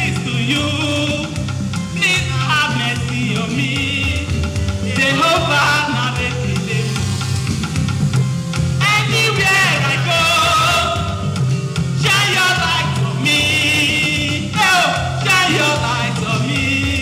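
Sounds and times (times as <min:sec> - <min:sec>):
backing track with bass line: 0:00.0 - 0:17.0.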